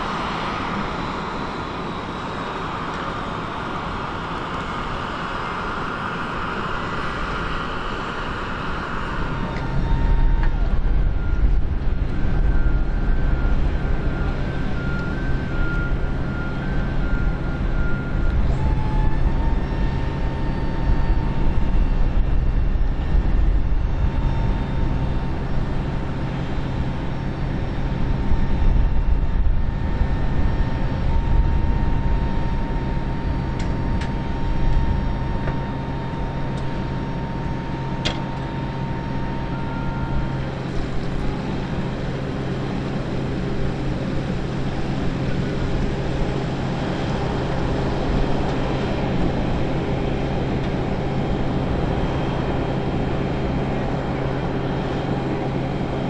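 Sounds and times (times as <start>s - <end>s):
low mechanical drone of vehicles: 0.0s - 56.0s
thin steady whine: 0.0s - 56.0s.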